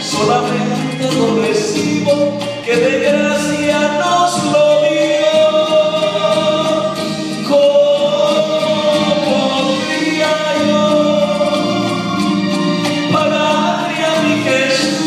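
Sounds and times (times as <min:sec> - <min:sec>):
man singing into microphone: 0:00.0 - 0:12.3, 0:13.0 - 0:15.0
accompaniment music: 0:00.0 - 0:15.0.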